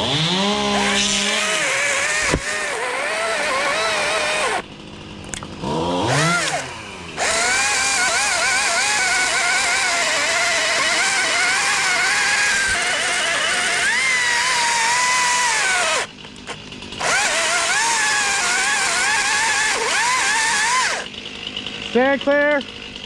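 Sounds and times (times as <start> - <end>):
chainsaw running at high revs: 0.0 - 23.0.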